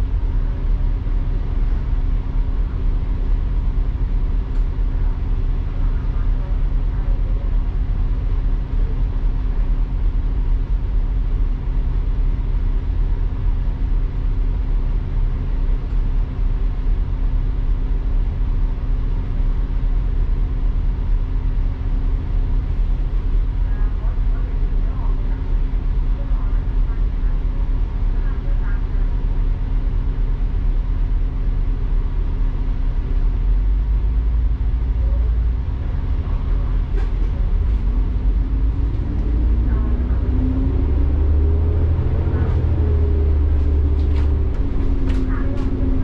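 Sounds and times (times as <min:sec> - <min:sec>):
bus engine and road rumble: 0:00.0 - 0:46.0.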